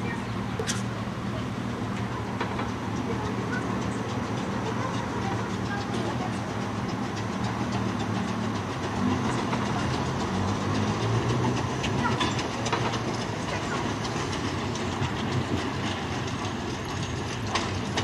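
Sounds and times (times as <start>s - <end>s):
train rumbling on track: 0.0s - 18.0s
wheel-on-rail clicks: 0.0s - 18.0s.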